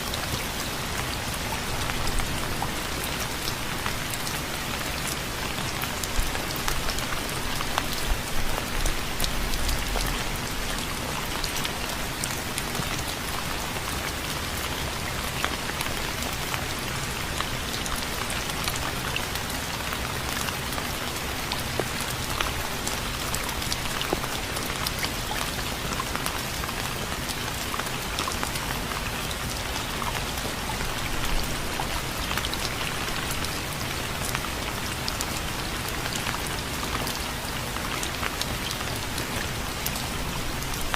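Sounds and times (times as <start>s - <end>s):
rain pattering on hard surface: 0.0s - 40.9s.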